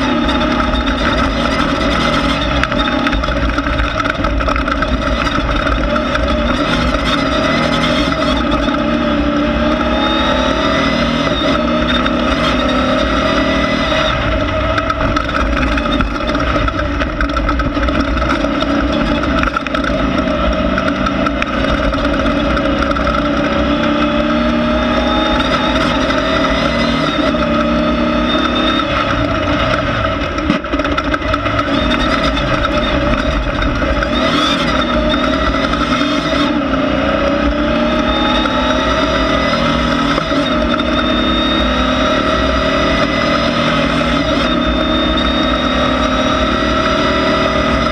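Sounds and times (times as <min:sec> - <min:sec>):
off-road race car engine revving: 0:00.0 - 0:47.9.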